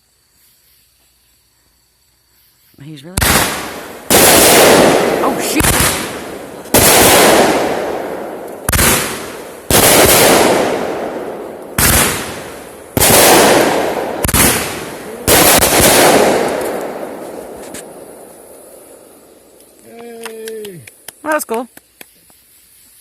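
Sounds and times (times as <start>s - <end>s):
fireworks salvos: 2.4s - 23.0s.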